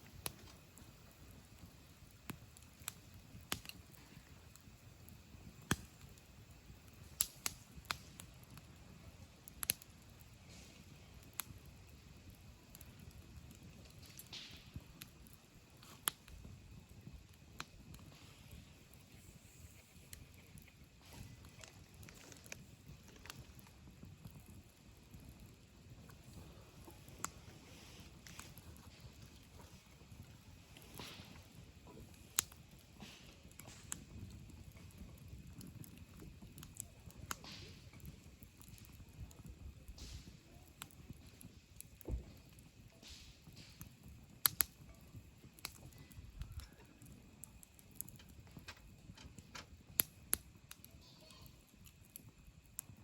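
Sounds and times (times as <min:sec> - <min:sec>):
burning wood popping: 0:00.0 - 0:53.0
campfire crackling: 0:00.0 - 0:53.0.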